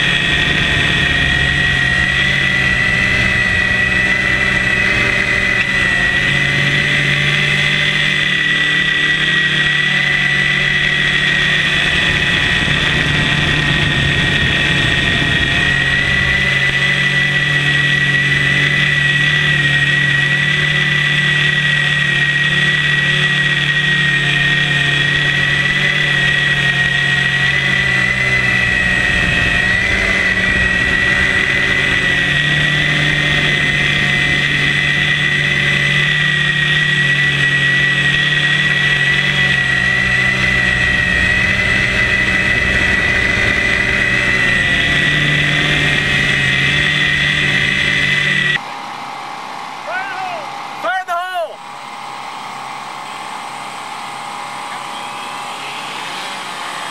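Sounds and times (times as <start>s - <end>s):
drone motors and propellers whining: 0.0s - 56.9s.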